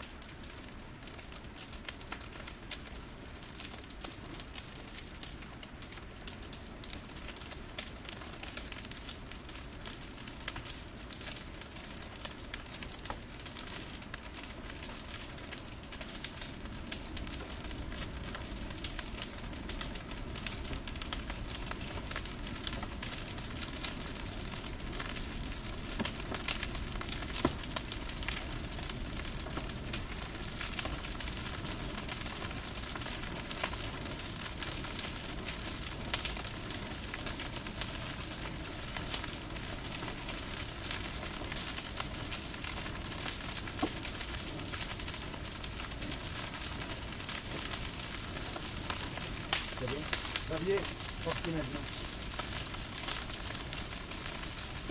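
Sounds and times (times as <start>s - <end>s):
fire crackles and pops: 0.0s - 54.9s
firewood hissing: 5.0s - 54.9s.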